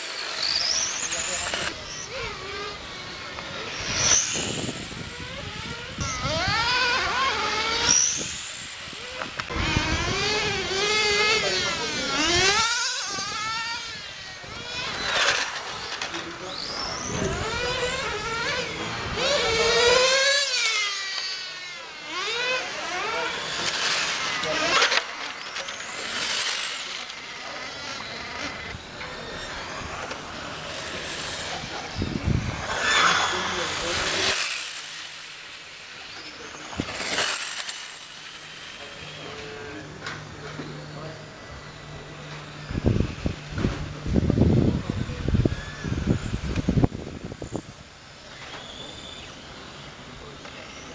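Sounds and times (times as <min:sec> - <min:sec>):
electric rc car motors whining: 0:00.0 - 0:50.9.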